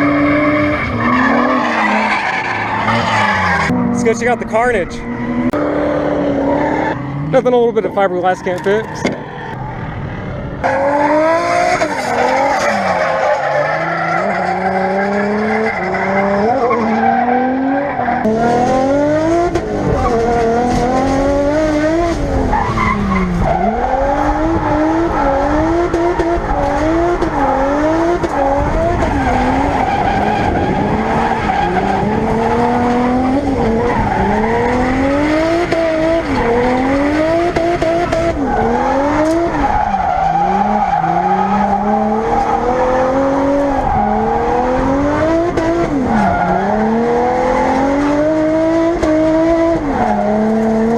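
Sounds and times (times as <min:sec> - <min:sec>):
turbocharged car engine revving: 0:00.0 - 0:50.9.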